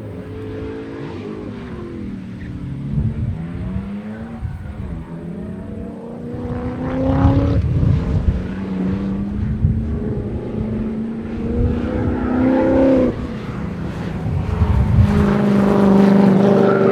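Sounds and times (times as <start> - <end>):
car engine accelerating hard: 0.0 - 16.9.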